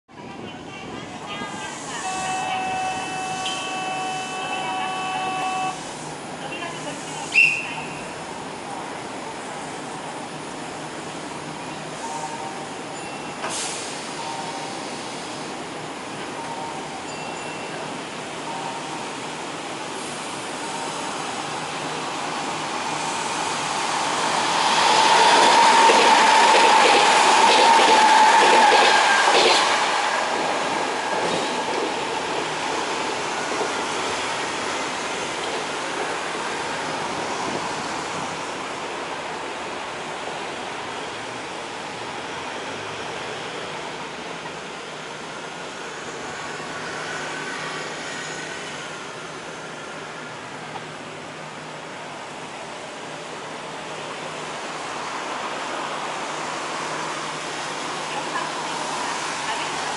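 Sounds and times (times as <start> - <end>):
electric train whine: 1.6 - 59.9.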